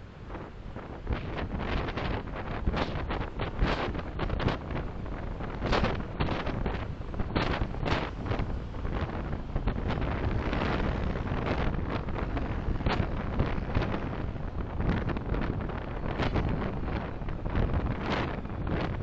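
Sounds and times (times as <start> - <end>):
road and wind rumble: 0.0 - 19.0.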